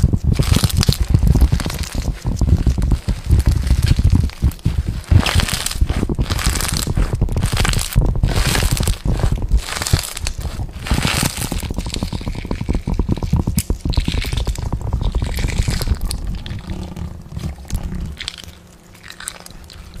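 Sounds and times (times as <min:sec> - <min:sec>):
crackling crunching clicks: 0:00.0 - 0:20.0
steady low rumble: 0:00.0 - 0:20.0.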